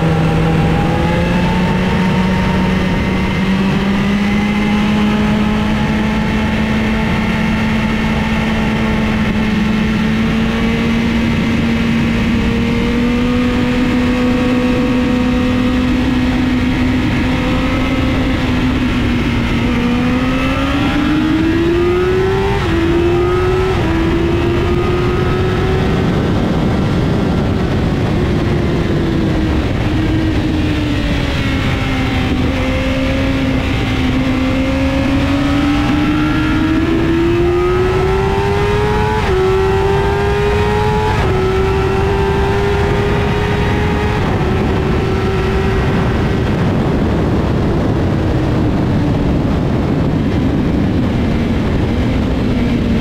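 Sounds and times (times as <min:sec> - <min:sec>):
heavy low rumble: 0:00.0 - 0:53.0
vehicle engine running hard: 0:00.0 - 0:53.0.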